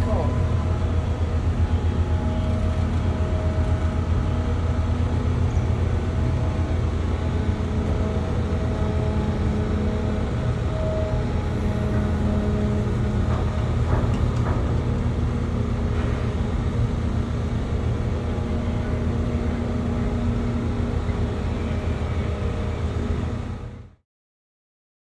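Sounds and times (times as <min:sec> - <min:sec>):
constant hum: 0:00.0 - 0:24.0
low engine drone: 0:00.0 - 0:24.0.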